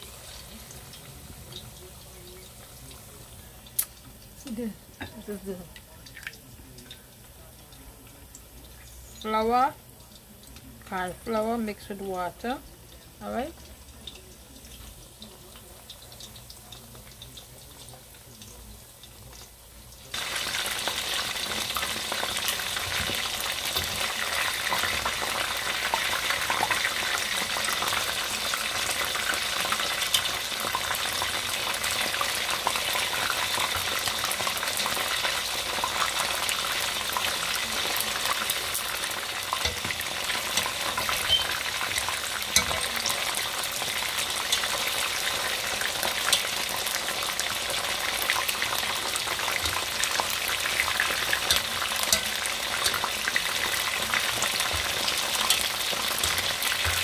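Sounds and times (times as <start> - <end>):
chicken wings deep-frying in oil: 0.0 - 57.0.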